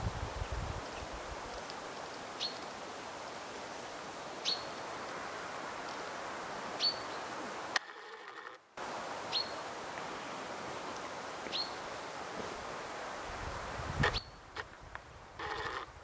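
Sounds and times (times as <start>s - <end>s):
woodland air hiss: 0.0s - 7.9s, 8.8s - 16.0s.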